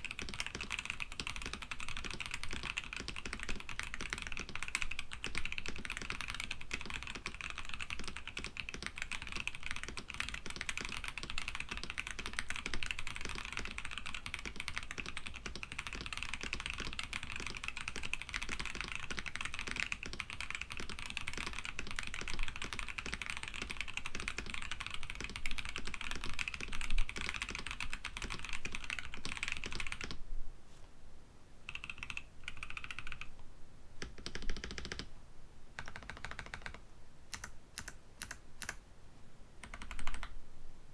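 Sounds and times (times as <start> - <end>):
typing on mechanical keyboard: 0.0 - 30.2, 31.7 - 33.3, 34.0 - 35.1, 35.8 - 38.8, 39.6 - 40.3.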